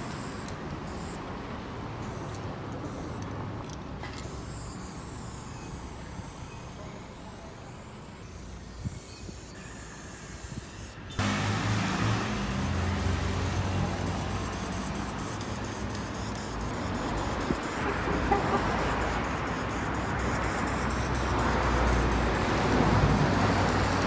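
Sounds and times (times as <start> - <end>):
spray paint can hissing: 0.0 - 1.2, 2.0 - 3.2, 4.2 - 24.0
street traffic rumble: 0.0 - 24.0.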